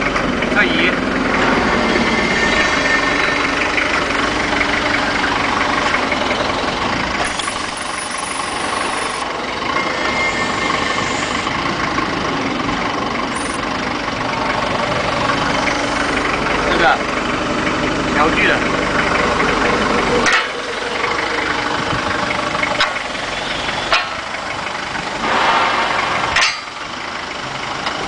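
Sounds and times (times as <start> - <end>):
diesel forklift engine idling: 0.0 - 28.0.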